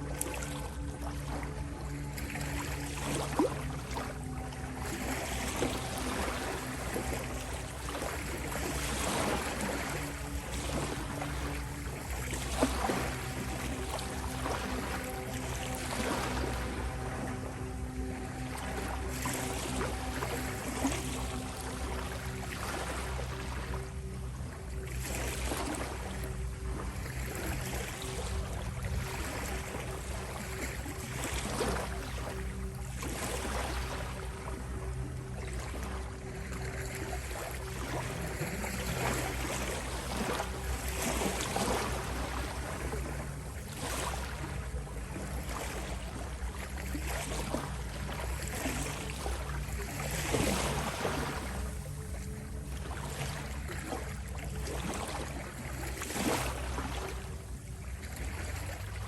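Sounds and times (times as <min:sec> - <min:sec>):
low ambient drone: 0:00.0 - 0:59.0
low hum of sustained tones: 0:00.0 - 0:59.0
ocean waves washing: 0:00.0 - 0:59.0.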